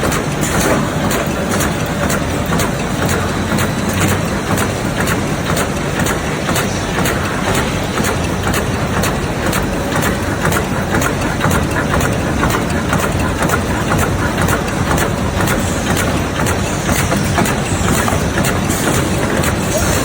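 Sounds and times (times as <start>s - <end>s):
machine humming and clicking: 0.0s - 20.0s.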